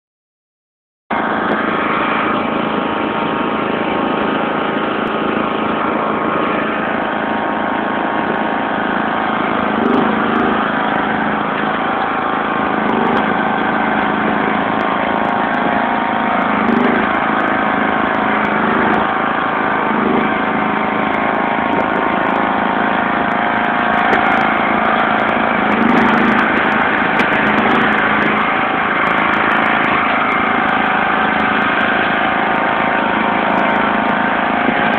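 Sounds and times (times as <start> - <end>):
lawn tractor engine under load: 1.1 - 34.9.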